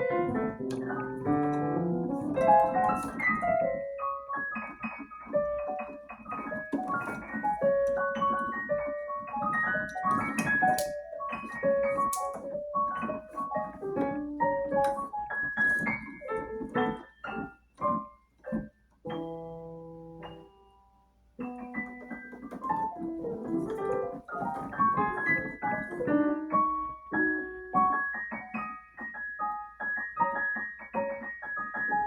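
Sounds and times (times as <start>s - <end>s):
piano playing: 0.0s - 32.0s.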